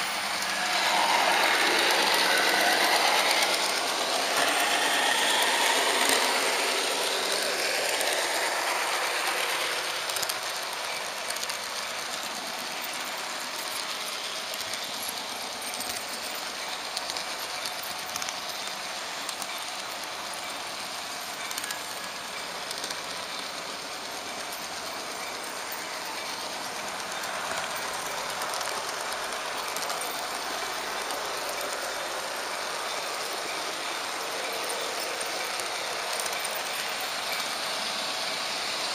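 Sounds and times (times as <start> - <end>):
model train wheels rattling on rail: 0.0 - 38.9.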